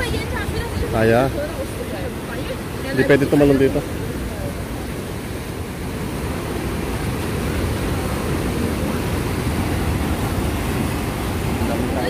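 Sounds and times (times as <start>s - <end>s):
sea waves breaking on rocks: 0.0s - 12.0s
wind buffeting microphone: 0.0s - 12.0s.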